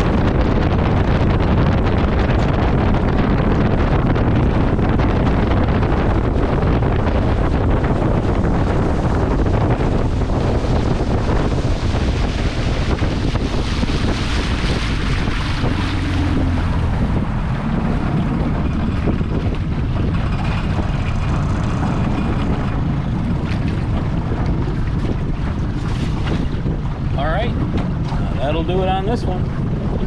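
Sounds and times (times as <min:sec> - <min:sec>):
outboard motor running: 0:00.0 - 0:30.0
water against metal hull: 0:00.0 - 0:30.0
wind on microphone: 0:00.0 - 0:30.0.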